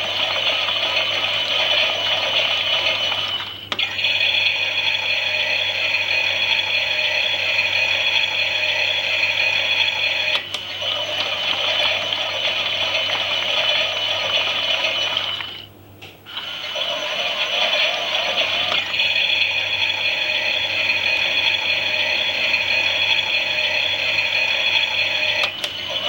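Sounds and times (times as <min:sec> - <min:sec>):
toy washing machine whirring: 0:00.0 - 0:15.7, 0:16.3 - 0:26.0.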